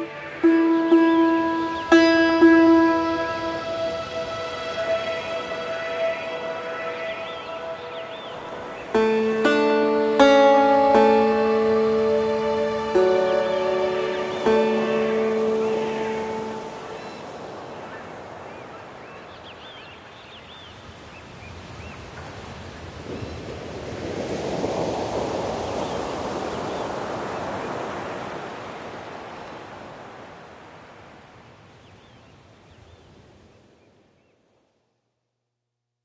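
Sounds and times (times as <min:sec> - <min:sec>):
ocean waves: 0:00.0 - 0:34.1.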